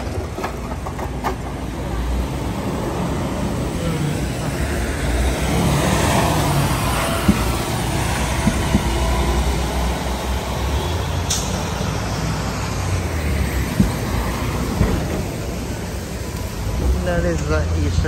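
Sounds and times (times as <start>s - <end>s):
heavy vehicle engines rumbling: 0.0s - 18.0s.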